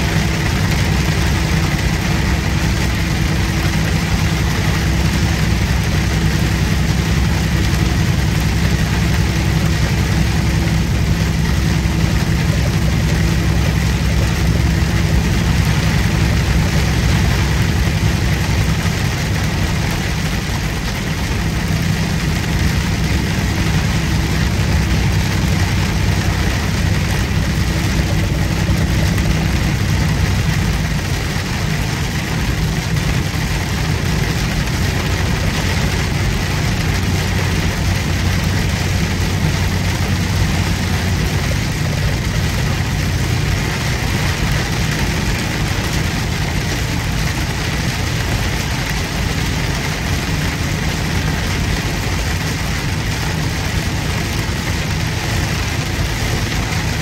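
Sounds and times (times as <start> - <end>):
truck engine droning: 0.0 - 57.0
tyre and road noise: 0.0 - 57.0.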